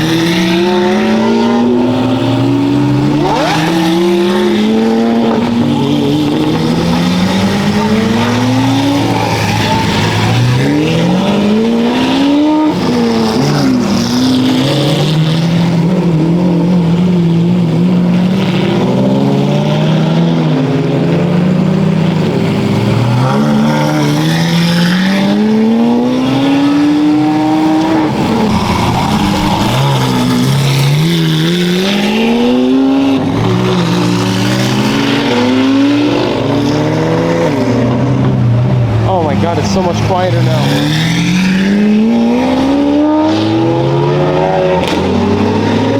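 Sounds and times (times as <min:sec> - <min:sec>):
race cars accelerating past: 0:00.0 - 0:45.9.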